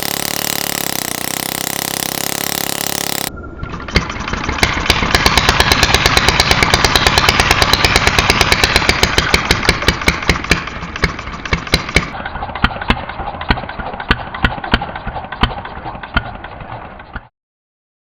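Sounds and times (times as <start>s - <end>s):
small engine running water pump: 0.0s - 17.3s.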